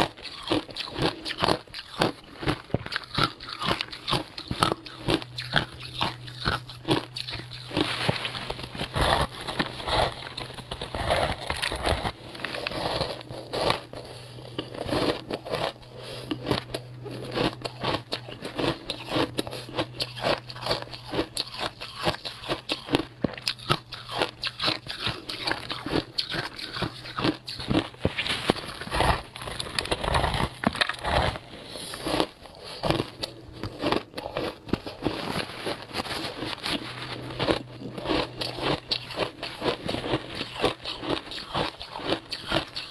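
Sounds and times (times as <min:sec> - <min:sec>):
ice being bitten and chewed: 0:00.0 - 0:42.9
steady low hum: 0:00.0 - 0:42.9.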